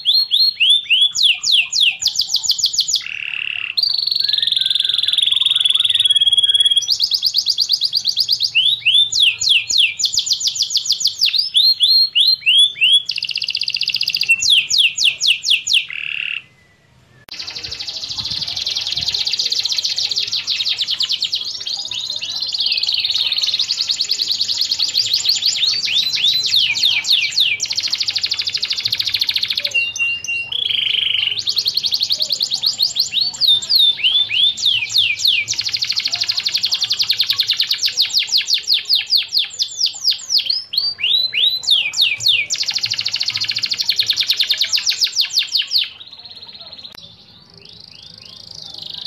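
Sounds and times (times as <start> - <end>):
canary singing trills: 0.0 - 49.0.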